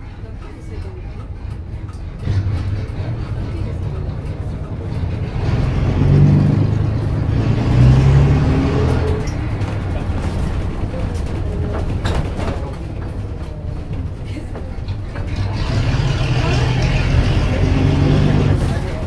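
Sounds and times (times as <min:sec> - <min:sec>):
bus diesel engine: 0:00.0 - 0:19.0.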